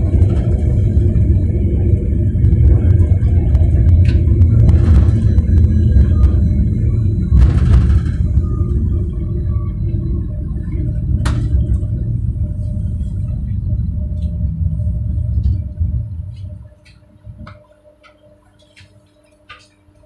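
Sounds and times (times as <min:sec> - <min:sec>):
tram rumbling on rails: 0:00.0 - 0:17.8.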